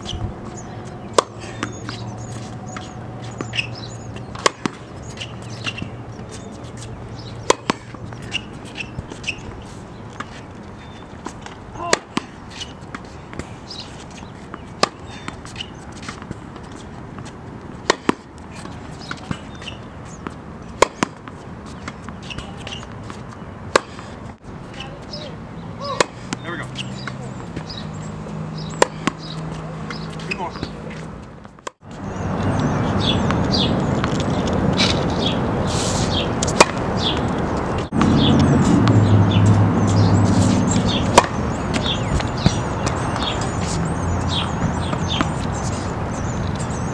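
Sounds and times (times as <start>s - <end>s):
birds chirping: 0.0s - 17.0s, 17.8s - 31.3s, 31.9s - 46.9s
racket hitting tennis ball: 0.0s - 24.2s, 24.8s - 27.8s, 28.6s - 31.9s, 33.1s - 46.7s
outdoor background noise: 0.0s - 46.9s.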